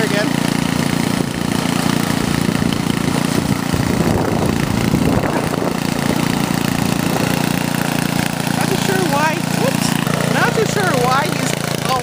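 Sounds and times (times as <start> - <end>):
snow-clearing machine engine: 0.0 - 12.0.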